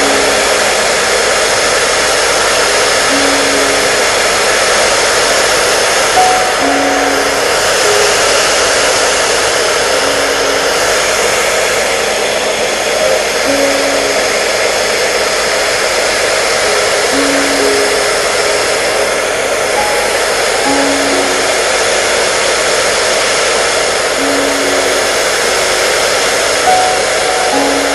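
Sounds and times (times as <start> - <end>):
faint slow melody: 0.0 - 27.9
hair dryer blowing: 0.0 - 27.9.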